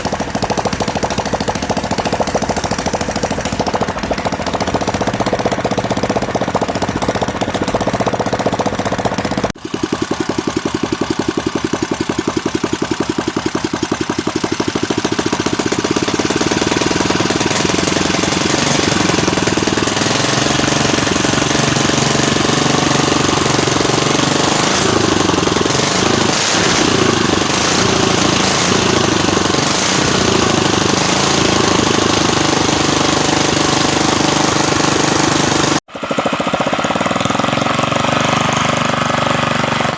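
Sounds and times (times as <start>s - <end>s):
longtail boat engine running: 0.0s - 39.9s.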